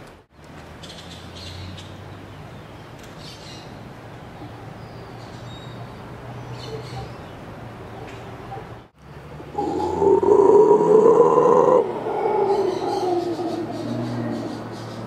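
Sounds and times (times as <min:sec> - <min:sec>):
birds chirping: 0:00.8 - 0:15.0.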